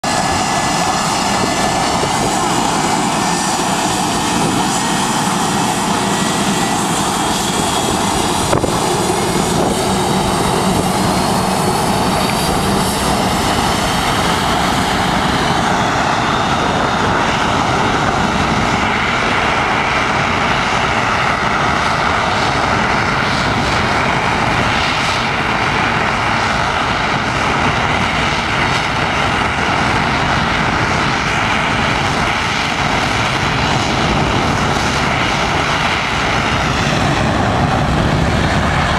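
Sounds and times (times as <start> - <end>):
jet engine whine rising: 0.0 - 38.9
jet engines roaring: 0.0 - 38.9.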